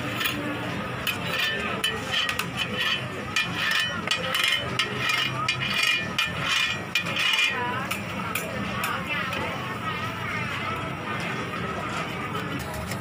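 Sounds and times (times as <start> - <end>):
spatula scraping on griddle: 0.0 - 10.5.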